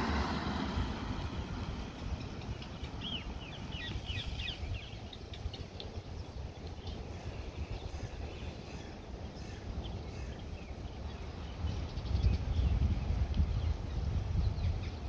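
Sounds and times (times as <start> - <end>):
low background rumble: 0.0 - 15.0
birds chirping: 1.0 - 15.0.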